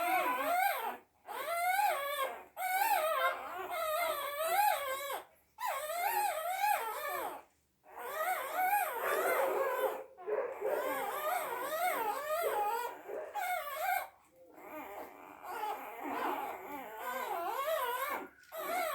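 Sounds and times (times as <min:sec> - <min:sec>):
dog whimpering and whining: 0:00.0 - 0:18.9.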